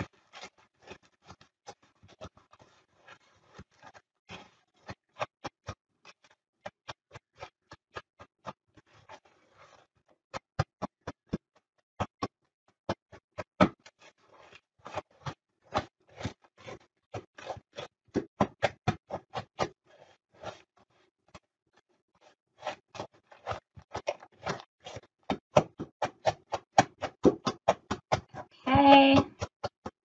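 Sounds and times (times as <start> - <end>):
wooden spoon scraping plastic bowl: 0.0 - 21.4, 22.1 - 30.0.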